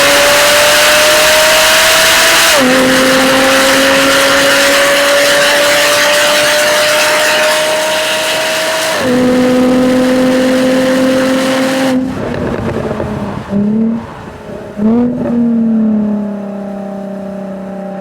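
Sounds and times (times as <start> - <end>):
car engine accelerating hard: 0.0 - 18.0
engine rev blips: 0.0 - 18.0.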